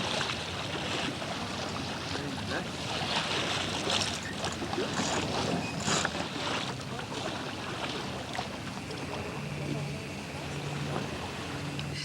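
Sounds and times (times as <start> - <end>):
water rushing along boat hull: 0.0 - 12.0
water splashes: 0.0 - 12.0.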